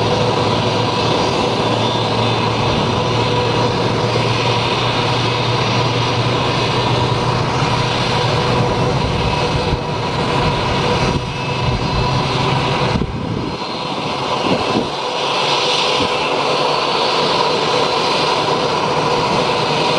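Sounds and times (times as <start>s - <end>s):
high engine whine: 0.0s - 19.9s
jet engine running: 0.0s - 19.9s.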